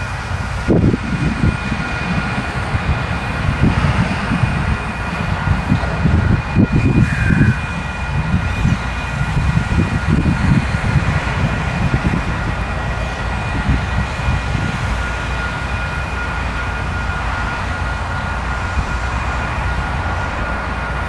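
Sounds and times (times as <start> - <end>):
distant freight train rumble: 0.0 - 21.0
wind buffeting microphone: 0.0 - 21.0.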